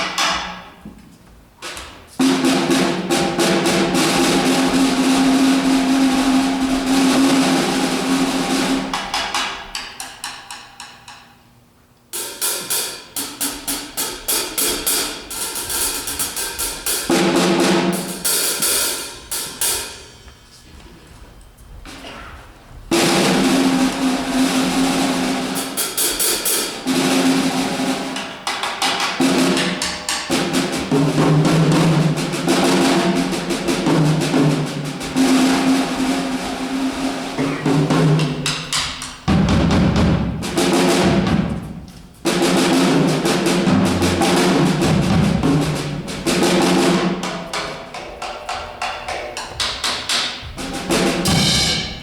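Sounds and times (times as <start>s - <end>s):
drum kit rolls: 1.6s - 11.1s, 12.1s - 20.6s, 21.7s - 52.0s.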